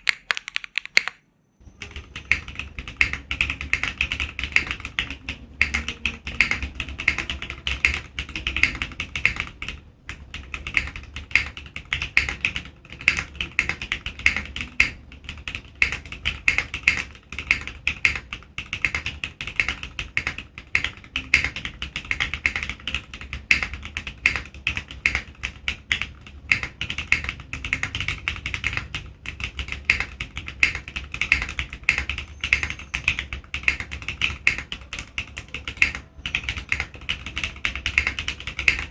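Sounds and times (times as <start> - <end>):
mechanical keyboard typing: 0.0 - 1.2, 1.8 - 38.9.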